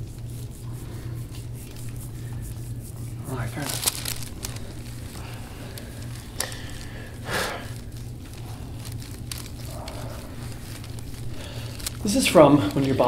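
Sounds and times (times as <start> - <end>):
hands rubbing oiled skin: 0.0 - 13.0
low room hum: 0.0 - 13.0.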